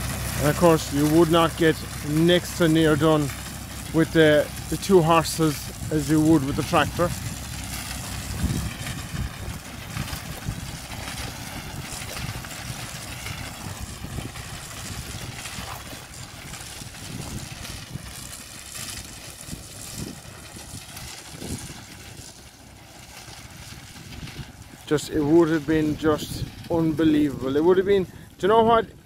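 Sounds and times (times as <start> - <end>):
wind buffeting microphone: 0.0 - 22.4, 23.1 - 29.0
distant tractor running: 0.0 - 29.0.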